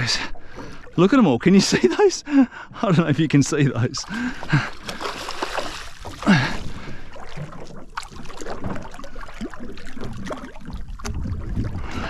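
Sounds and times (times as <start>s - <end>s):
water around a boat: 0.0s - 12.0s
wind: 0.0s - 12.0s.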